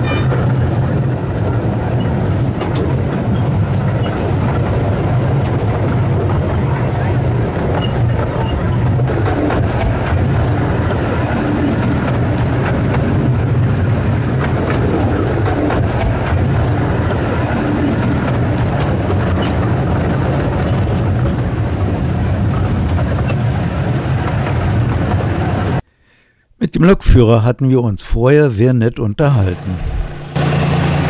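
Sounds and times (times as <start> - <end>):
train running: 0.0 - 25.8, 29.3 - 31.0
wheels clacking and rattling: 0.0 - 25.8.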